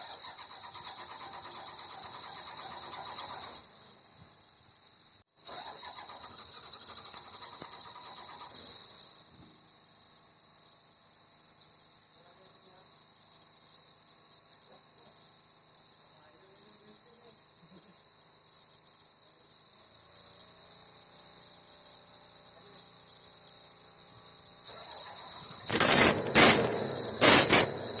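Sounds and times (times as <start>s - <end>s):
crickets chirring: 0.0s - 28.0s.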